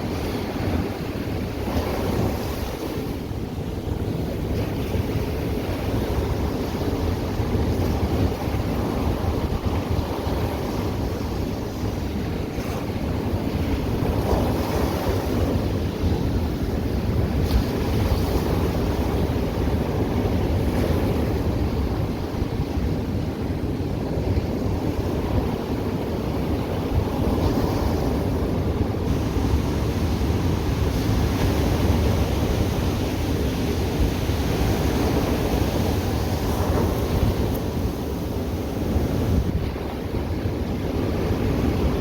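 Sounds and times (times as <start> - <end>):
ocean waves breaking on shore: 0.0 - 42.0
wind rumble on microphone: 0.0 - 42.0.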